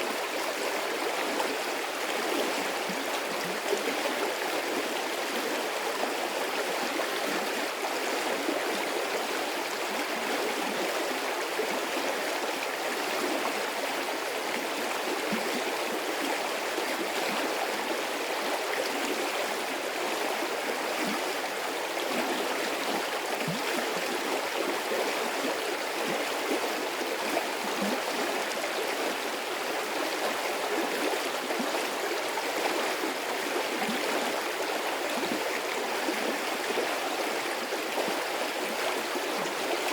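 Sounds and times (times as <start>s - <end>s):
stream of water rushing: 0.0s - 39.9s.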